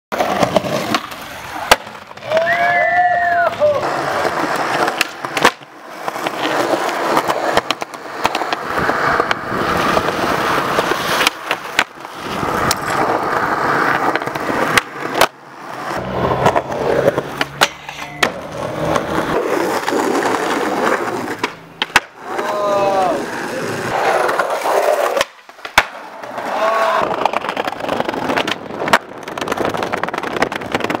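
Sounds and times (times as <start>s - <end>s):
skateboard wheels rolling on concrete: 0.1s - 31.0s
skateboard deck clacks: 3.4s - 31.0s.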